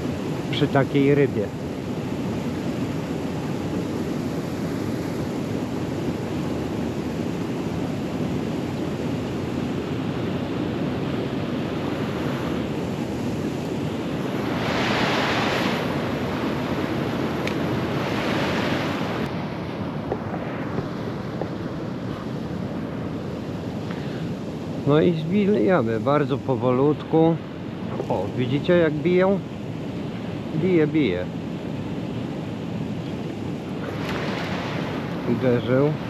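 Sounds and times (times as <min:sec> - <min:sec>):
river water flowing: 0:00.0 - 0:36.0
wind on microphone: 0:00.0 - 0:36.0.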